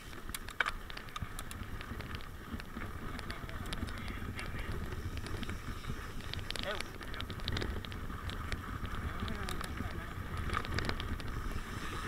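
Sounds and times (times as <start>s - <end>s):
bike rattling with clicks: 0.0s - 12.0s
tyres rumbling over dirt: 0.0s - 12.0s
wind rushing over microphone: 0.0s - 12.0s.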